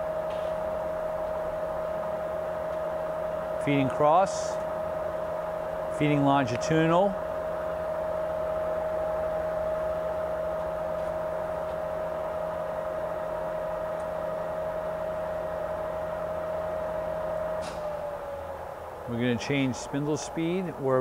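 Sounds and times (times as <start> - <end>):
lathe gear drive whine: 0.0 - 21.0
low hum: 0.0 - 21.0.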